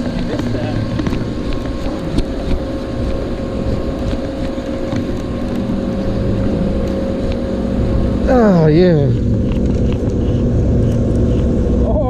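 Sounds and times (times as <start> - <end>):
machinery hum: 0.0 - 12.0
wind buffeting microphone: 0.0 - 12.0.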